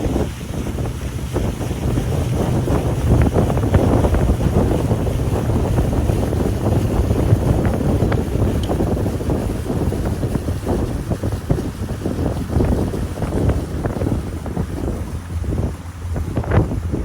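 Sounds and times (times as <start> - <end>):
water splashing along hull: 0.0 - 17.0
wind buffeting microphone: 0.0 - 17.0.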